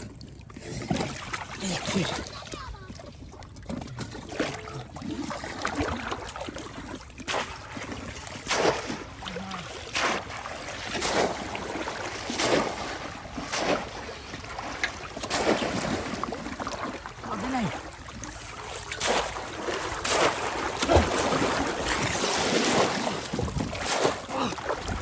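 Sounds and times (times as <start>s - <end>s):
pond water splashes: 0.0s - 25.0s
steady watery background: 0.0s - 25.0s.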